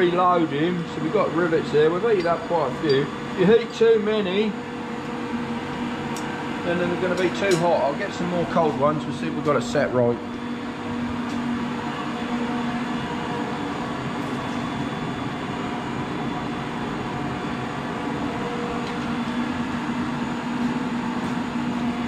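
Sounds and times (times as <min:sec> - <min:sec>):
cooling system machine hum: 0:00.0 - 0:22.0.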